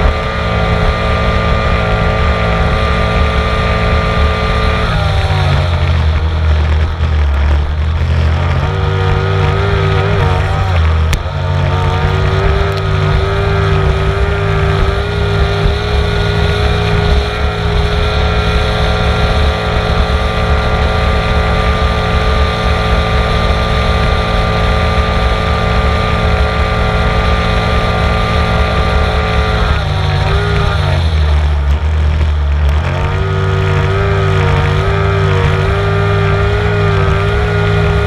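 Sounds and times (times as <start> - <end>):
powerboat engine running hard: 0.0 - 38.0.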